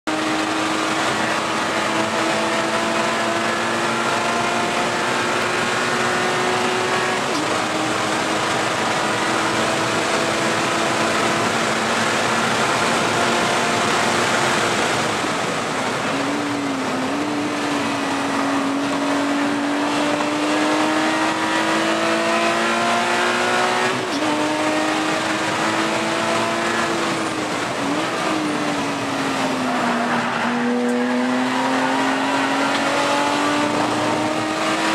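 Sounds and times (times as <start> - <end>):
race car engine at high revs: 0.0 - 34.9
wind and road noise: 0.1 - 34.9.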